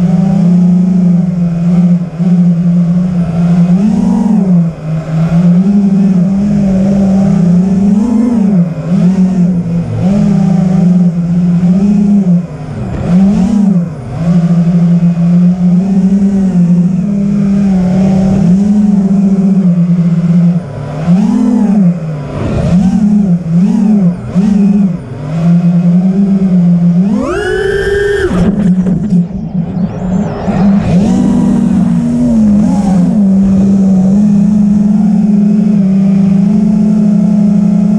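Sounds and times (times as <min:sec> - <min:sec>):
motor revving: 0:00.0 - 0:37.9.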